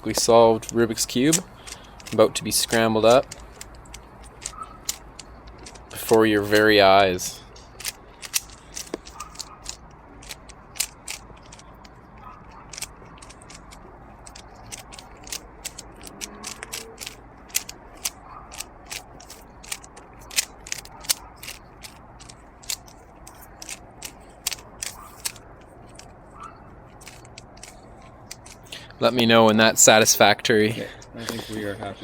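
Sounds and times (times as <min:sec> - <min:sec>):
puzzle cube layers clicking: 0:00.1 - 0:28.8.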